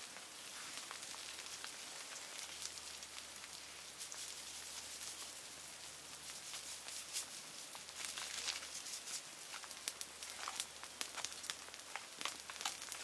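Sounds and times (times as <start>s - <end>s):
campfire hissing and crackling: 0.0s - 13.0s.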